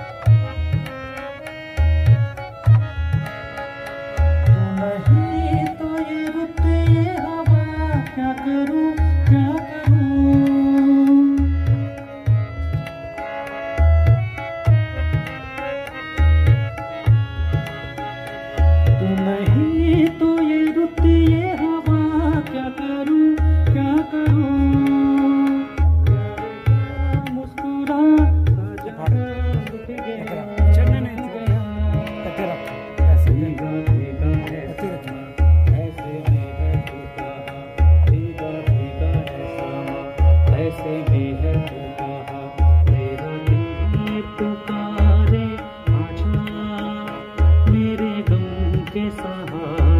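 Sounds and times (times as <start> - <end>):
electronic keyboard melody: 0.0 - 49.9
man singing into a microphone: 0.0 - 49.9
tabla-style drum pattern: 0.0 - 49.9.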